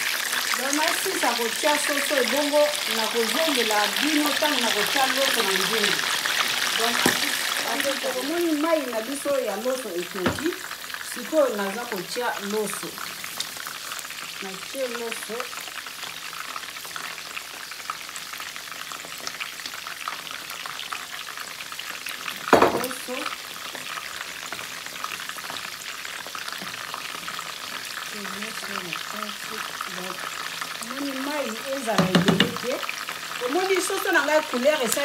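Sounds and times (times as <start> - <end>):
stock boiling and bubbling: 0.0 - 35.0.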